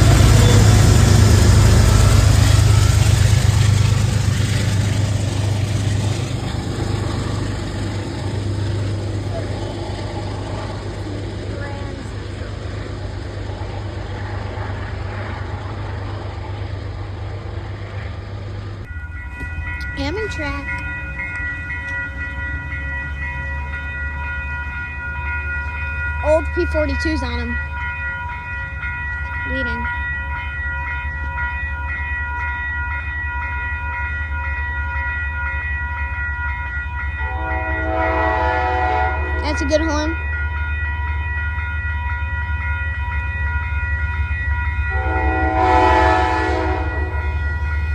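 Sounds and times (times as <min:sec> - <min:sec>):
crossing bell dinging: 0:00.0 - 0:47.9
passenger train rumbling past: 0:00.0 - 0:47.9.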